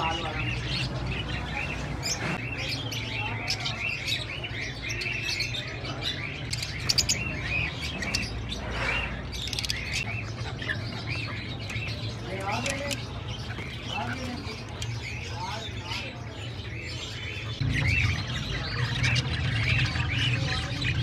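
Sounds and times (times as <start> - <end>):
caged birds chirping: 0.0 - 21.0.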